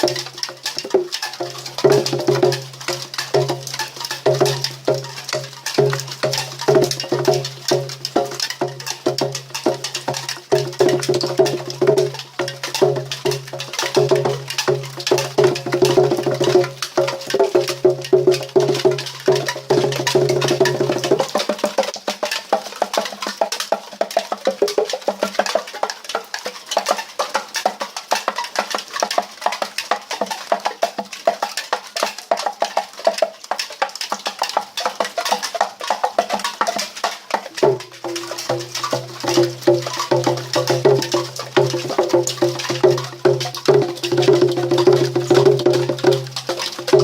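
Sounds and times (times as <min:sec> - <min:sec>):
rain drops tapping a metal can: 0:00.0 - 0:47.0.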